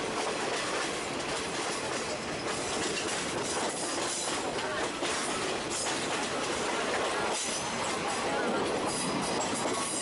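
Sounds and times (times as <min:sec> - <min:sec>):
train wheels on rails rushing: 0:00.0 - 0:10.0.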